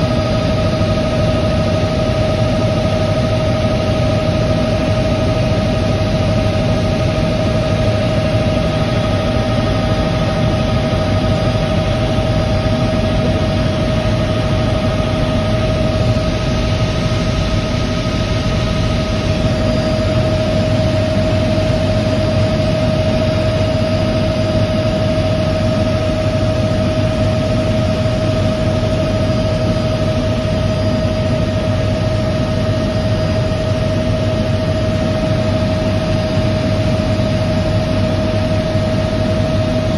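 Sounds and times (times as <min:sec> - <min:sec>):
constant whine: 0:00.0 - 0:39.9
helicopter engine and rotors droning: 0:00.0 - 0:39.9.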